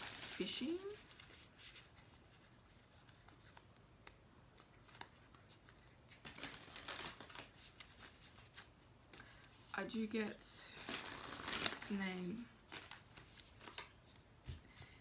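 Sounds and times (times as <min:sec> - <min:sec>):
cards being shuffled: 0:00.0 - 0:09.6, 0:10.8 - 0:14.9.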